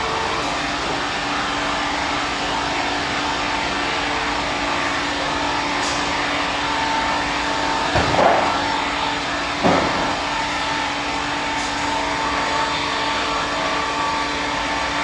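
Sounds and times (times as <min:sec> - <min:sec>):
sawmill machine humming: 0:00.0 - 0:15.0.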